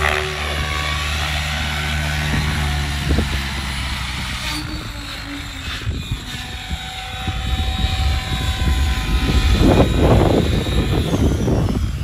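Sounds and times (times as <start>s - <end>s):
rc helicopter motor whine: 0.0s - 12.0s
rotor rushing: 0.0s - 12.0s.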